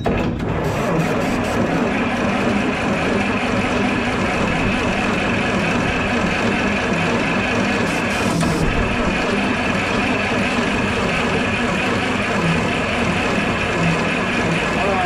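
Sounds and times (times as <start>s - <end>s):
engine cranking without starting: 0.0s - 15.0s.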